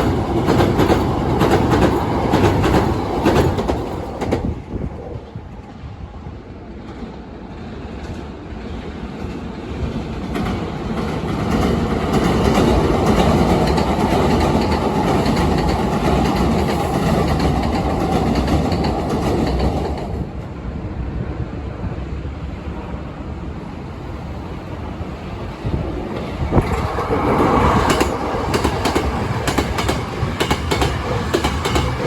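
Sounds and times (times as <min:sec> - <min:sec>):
train wheels on bridge: 0:00.0 - 0:32.0.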